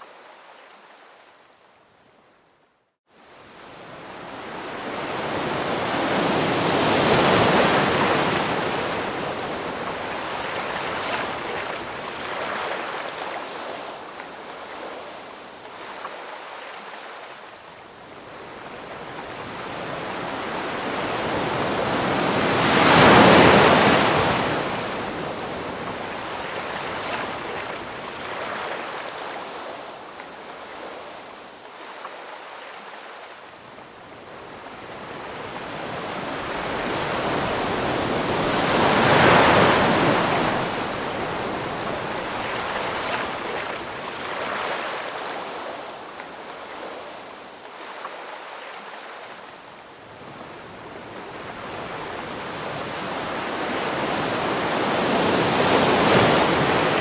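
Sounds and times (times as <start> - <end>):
ocean waves breaking on shore: 3.1 - 57.0.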